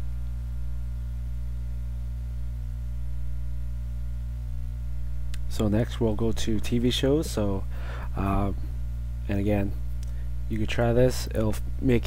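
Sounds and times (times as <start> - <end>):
faint high buzzing: 0.0 - 12.0
low electrical hum: 0.0 - 12.0.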